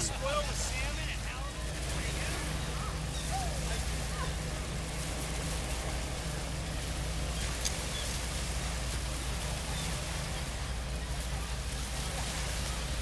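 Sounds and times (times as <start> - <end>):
small waves on gravel beach: 0.0 - 13.0.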